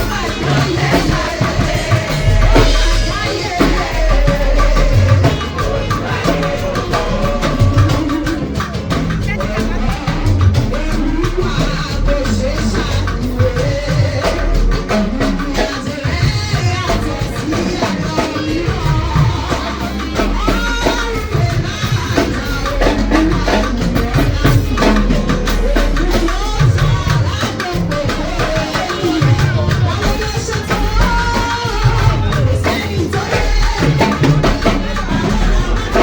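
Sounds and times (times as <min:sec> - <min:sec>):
drums and hand percussion: 0:00.0 - 0:36.0
upbeat music with singing: 0:00.0 - 0:36.0.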